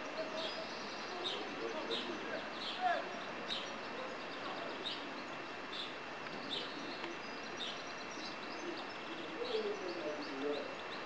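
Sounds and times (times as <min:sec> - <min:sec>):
bird chirping: 0:00.0 - 0:11.0
outdoor hiss: 0:00.0 - 0:11.0.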